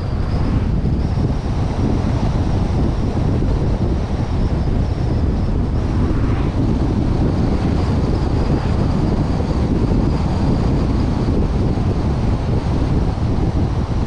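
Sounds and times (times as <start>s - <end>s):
vehicle road and engine noise: 0.0s - 14.0s
wind rushing over microphone: 0.0s - 14.0s.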